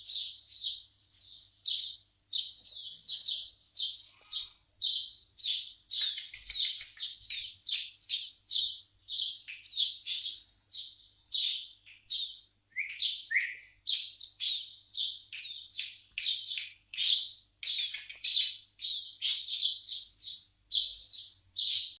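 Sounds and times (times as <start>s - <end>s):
sparrow chirping: 0.0s - 22.0s.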